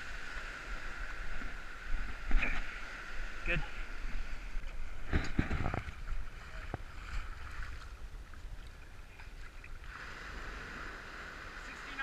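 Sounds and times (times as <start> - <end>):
seawater splashing: 0.0 - 12.0.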